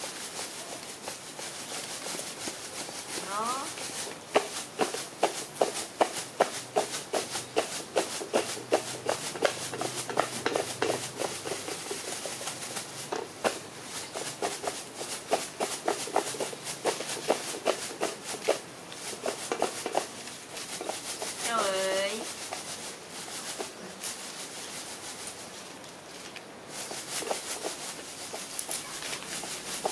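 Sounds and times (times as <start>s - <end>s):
monkeys chewing leaves: 0.0s - 29.9s.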